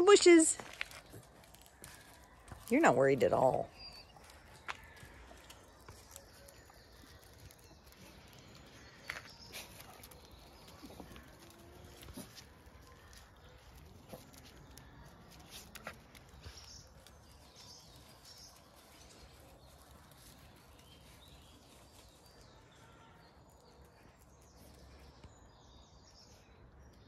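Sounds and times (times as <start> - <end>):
distant birds chirping: 0.0 - 27.0.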